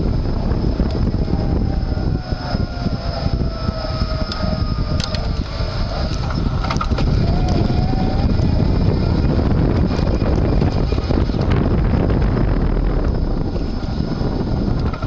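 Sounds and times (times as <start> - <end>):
faint electric motor whine: 0.0 - 15.0
wind noise on microphone: 0.0 - 15.0.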